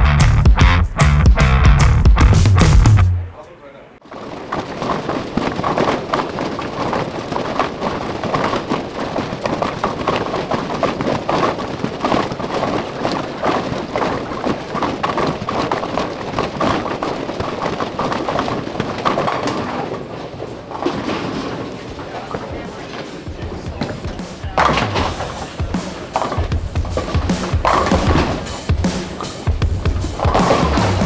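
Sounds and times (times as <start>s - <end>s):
bowling balls rolling: 4.0s - 31.0s
bowling pins clattering: 4.0s - 31.0s.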